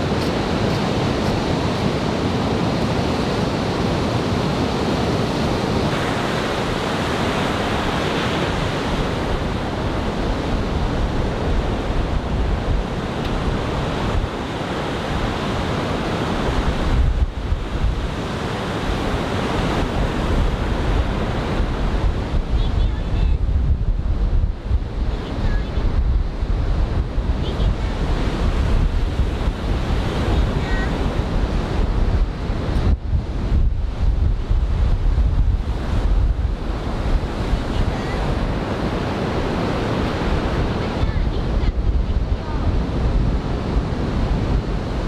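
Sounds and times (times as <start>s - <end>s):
surf breaking on beach: 0.0s - 45.0s
wind buffeting microphone: 0.0s - 45.0s.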